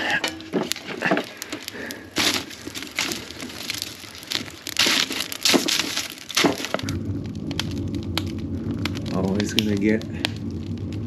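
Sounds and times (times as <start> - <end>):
logs knocking and scraping: 0.0 - 10.4.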